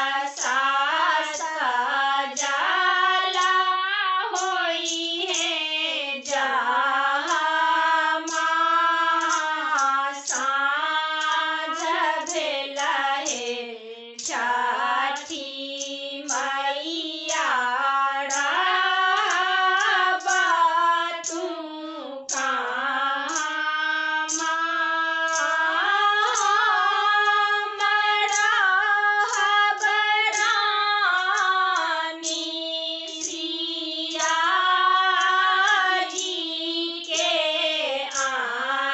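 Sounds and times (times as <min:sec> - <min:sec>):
women singing folk song unaccompanied: 0:00.0 - 0:38.9.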